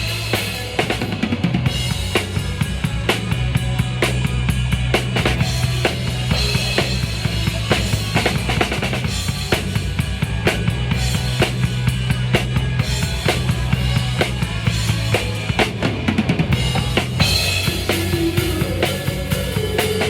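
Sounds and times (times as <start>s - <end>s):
drum kit kick and snare: 0.0s - 20.0s
live band music: 0.0s - 20.0s
low bass line: 0.0s - 20.0s.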